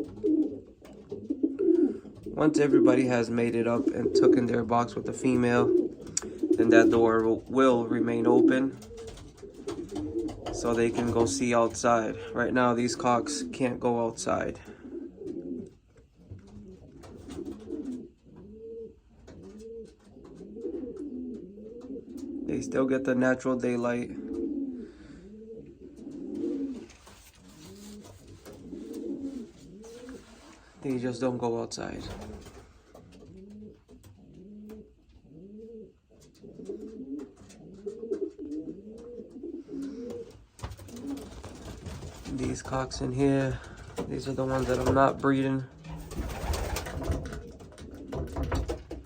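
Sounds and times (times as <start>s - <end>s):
pigeons cooing: 0.0s - 30.8s, 31.6s - 49.0s.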